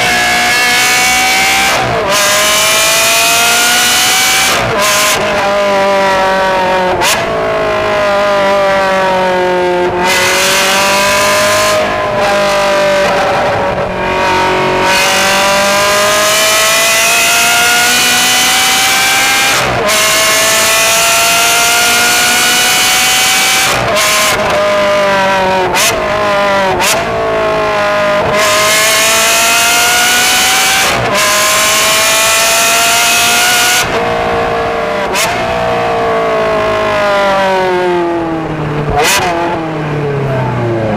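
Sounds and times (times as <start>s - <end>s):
sports car engine revving: 0.0s - 40.9s.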